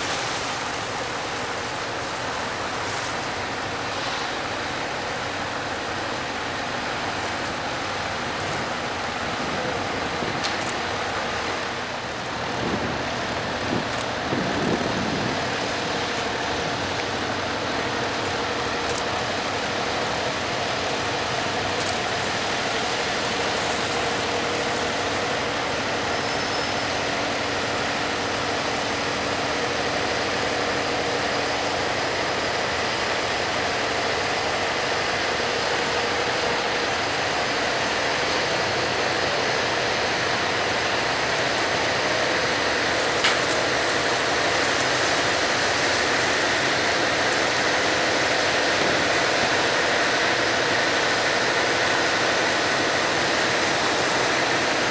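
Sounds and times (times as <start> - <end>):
boat engine running: 0.0 - 54.9
wash of noise: 0.0 - 54.9.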